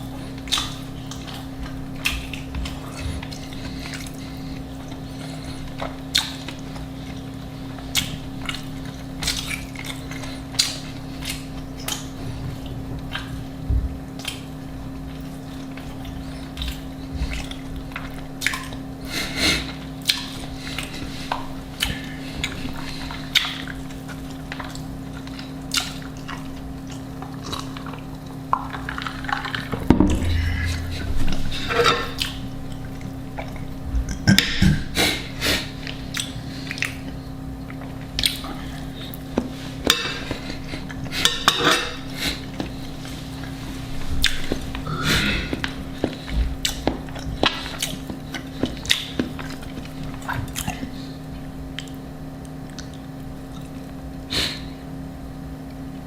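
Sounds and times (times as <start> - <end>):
chewing: 0.0 - 54.0
steady low hum: 0.0 - 56.0.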